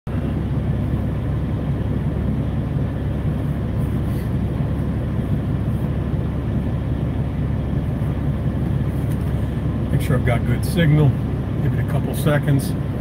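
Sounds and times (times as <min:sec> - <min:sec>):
truck idling low rumble: 0:00.1 - 0:13.0.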